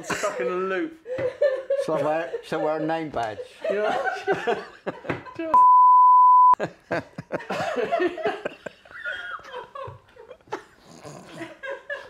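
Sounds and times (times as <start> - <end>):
men laughing: 0.0 - 5.5, 6.6 - 12.0.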